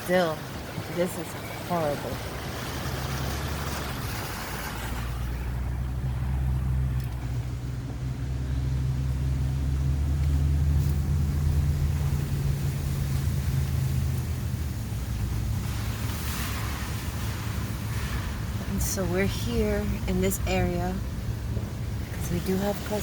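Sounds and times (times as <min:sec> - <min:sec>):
car engine hum and road noise: 0:00.0 - 0:23.0.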